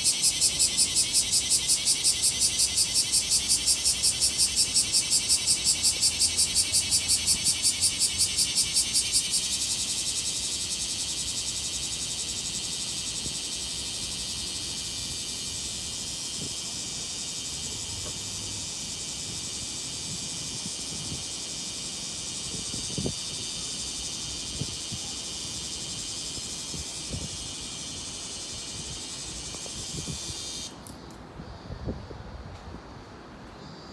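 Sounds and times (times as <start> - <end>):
cicada singing: 0.0 - 31.9.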